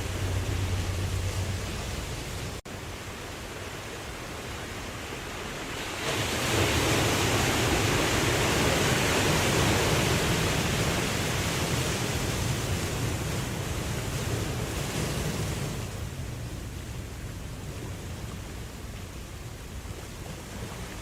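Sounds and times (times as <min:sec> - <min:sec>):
ocean waves rushing: 0:00.0 - 0:21.0.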